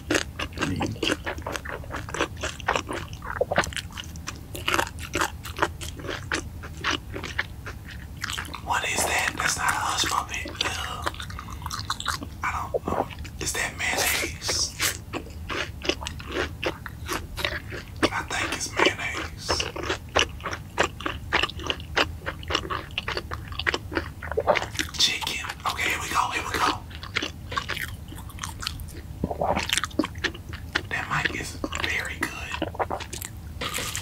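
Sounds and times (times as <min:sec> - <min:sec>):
chewing crispy fried food: 0:00.0 - 0:34.0.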